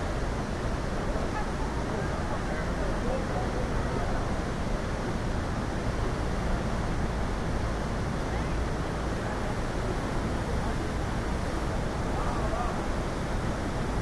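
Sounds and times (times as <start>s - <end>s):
faint voices of passengers: 0.0s - 14.0s
rushing water: 0.0s - 14.0s
wind: 0.0s - 14.0s.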